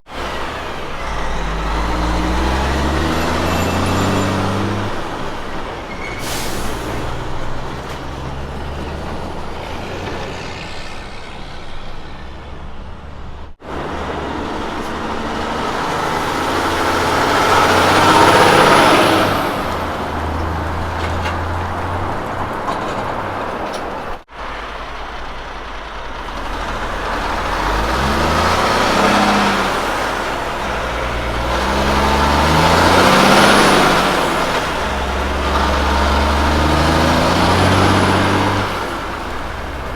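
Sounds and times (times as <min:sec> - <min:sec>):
diesel trucks driving past: 0:00.0 - 0:39.9
tyre and trailer noise: 0:00.0 - 0:39.9.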